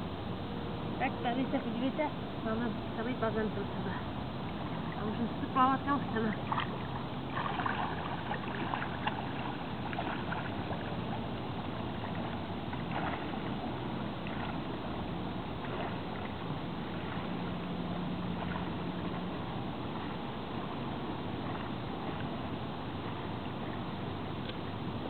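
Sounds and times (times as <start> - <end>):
pool water sloshing: 1.2 - 25.0
faint splashes: 2.7 - 24.7.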